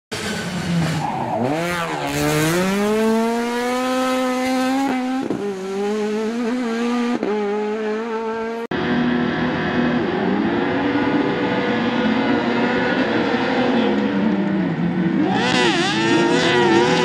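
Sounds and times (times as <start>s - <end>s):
racing car engine revving: 0.1s - 17.0s.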